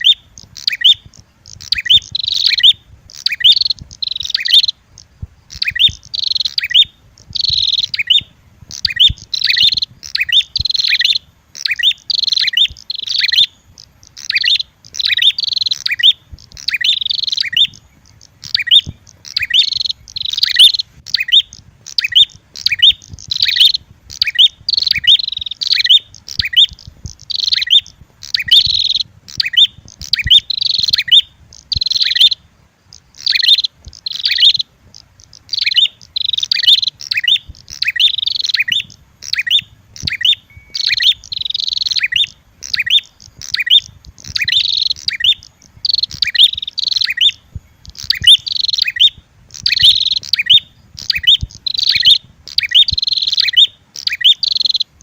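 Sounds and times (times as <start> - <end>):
bird chattering calls: 0.0 - 55.0.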